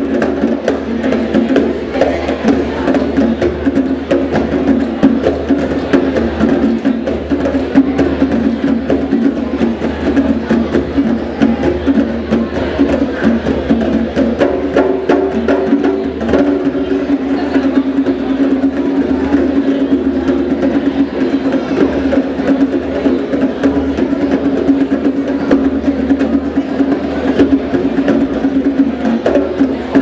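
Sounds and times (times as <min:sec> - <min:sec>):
djembe drums playing: 0:00.0 - 0:30.0.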